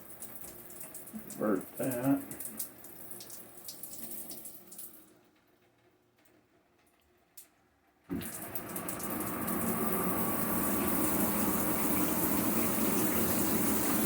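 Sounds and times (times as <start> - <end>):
shower water pouring: 0.0 - 14.0.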